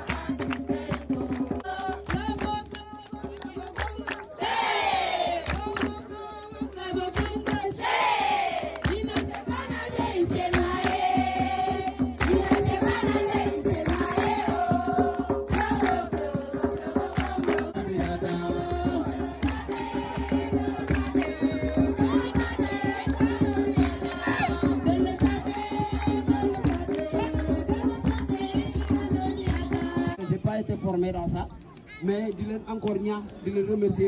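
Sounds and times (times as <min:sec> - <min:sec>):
group singing: 0:00.0 - 0:30.2
hand percussion: 0:00.0 - 0:30.3.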